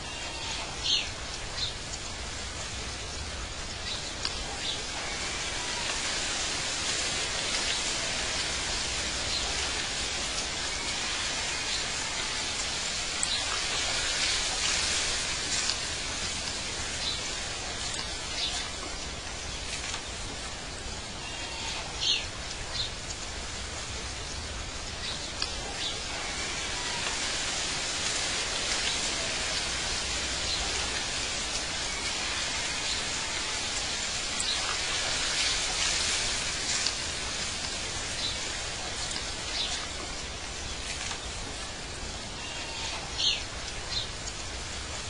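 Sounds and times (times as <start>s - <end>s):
steady rushing hiss: 0.0s - 45.0s.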